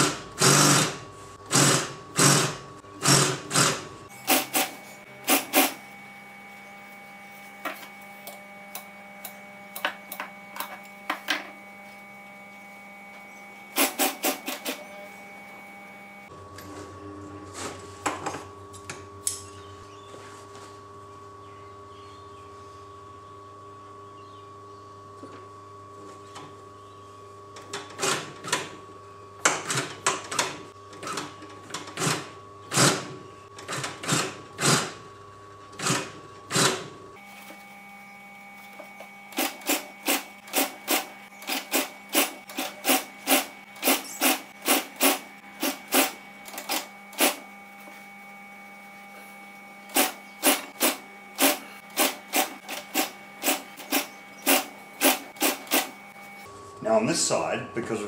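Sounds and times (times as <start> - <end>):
steady hum: 0.0 - 27.8, 32.1 - 58.0.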